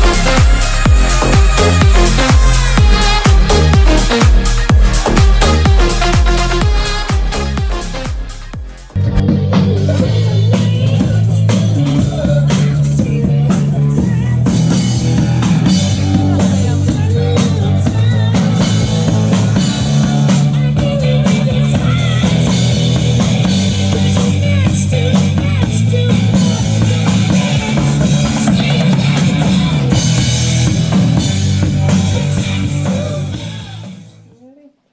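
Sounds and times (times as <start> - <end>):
drum kit played hard: 0.0 - 34.1
rock music: 0.0 - 34.3.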